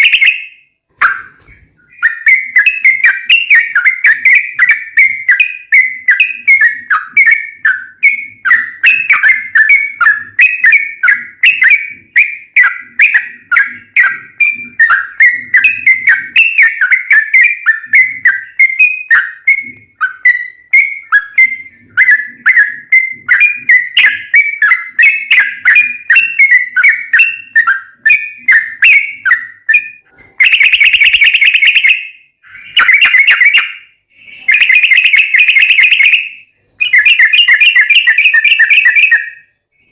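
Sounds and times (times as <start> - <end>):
bird song with rapid trills: 0.0 - 39.9.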